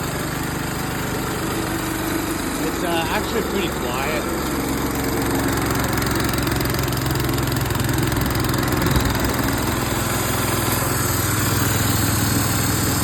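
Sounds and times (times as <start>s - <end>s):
air compressor engine running: 0.0s - 13.0s.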